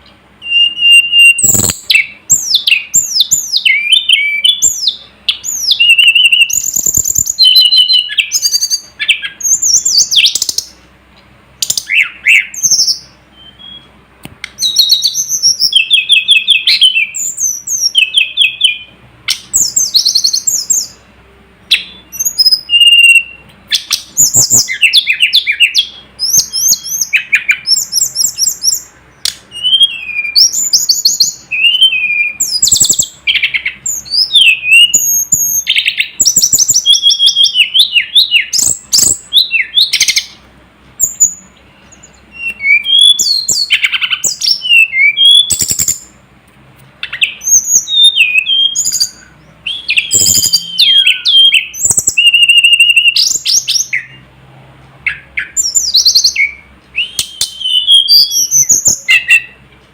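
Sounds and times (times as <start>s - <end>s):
songbird whistling and trilling: 0.4s - 10.8s, 11.6s - 13.9s, 14.5s - 21.0s, 21.7s - 40.4s, 41.0s - 46.2s, 47.0s - 54.2s, 55.1s - 59.6s.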